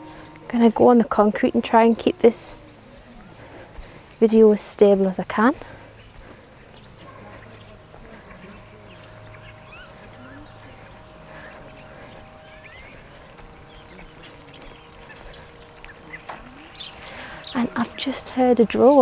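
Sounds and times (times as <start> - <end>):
drone humming: 0.0 - 19.0
small birds chirping: 0.0 - 19.0.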